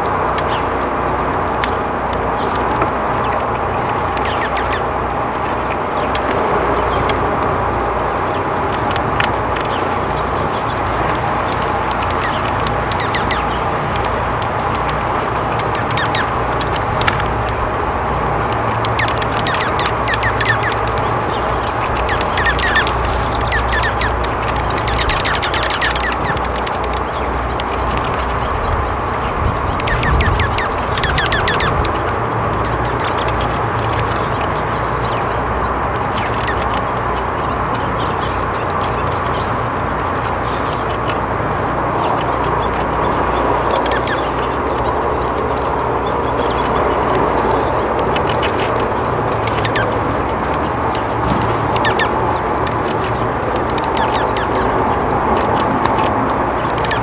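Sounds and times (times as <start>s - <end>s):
birds chirping: 0.0s - 57.0s
rapid rattling bird calls: 0.0s - 57.0s.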